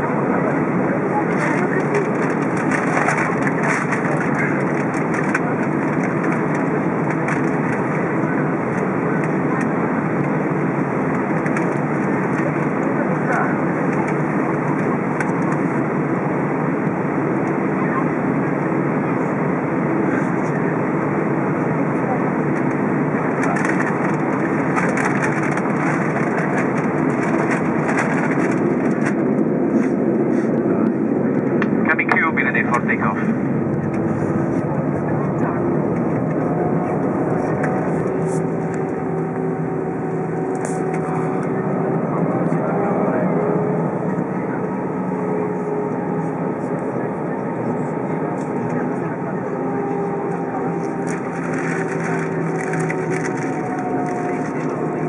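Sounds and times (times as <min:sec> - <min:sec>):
jet engines idling in cabin: 0:00.0 - 0:55.0.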